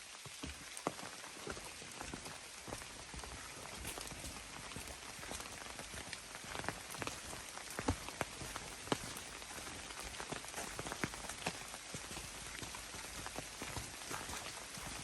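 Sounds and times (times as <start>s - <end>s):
rain hiss: 0.0s - 15.0s
raindrops tapping: 0.1s - 15.0s.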